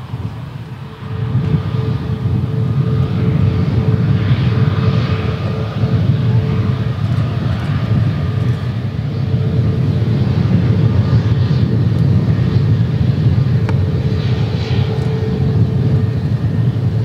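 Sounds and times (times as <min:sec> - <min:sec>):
jet engines rumbling and whining: 0:00.0 - 0:17.0.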